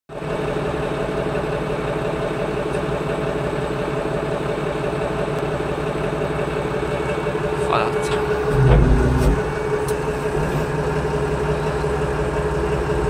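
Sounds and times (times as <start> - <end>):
forklift engine idling: 0.1 - 13.0.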